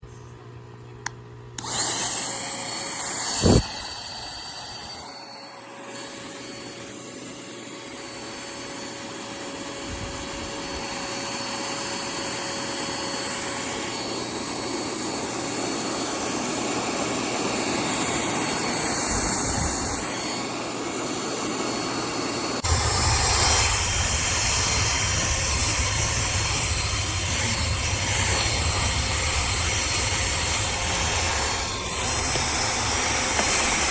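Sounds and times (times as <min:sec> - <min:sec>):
mini vacuum cleaner whining: 0:01.0 - 0:33.9.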